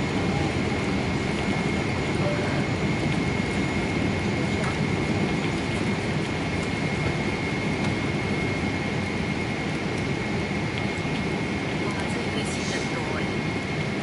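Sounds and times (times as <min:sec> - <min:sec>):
high whine: 0:00.0 - 0:14.0
jet engines and airflow: 0:00.0 - 0:14.0.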